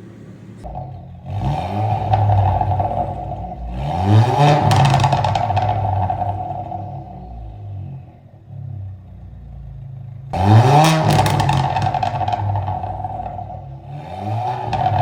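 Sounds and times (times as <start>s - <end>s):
car engine revving: 0.0s - 15.0s
exhaust pops and crackles: 0.6s - 8.1s, 8.8s - 15.0s.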